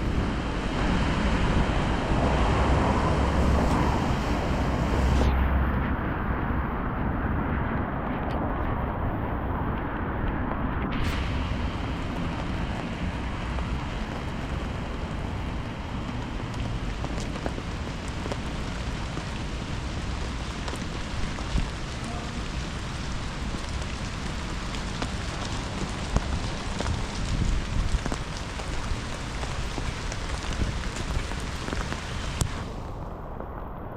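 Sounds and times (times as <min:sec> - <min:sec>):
steady rain falling: 0:00.0 - 0:05.6, 0:07.7 - 0:33.9.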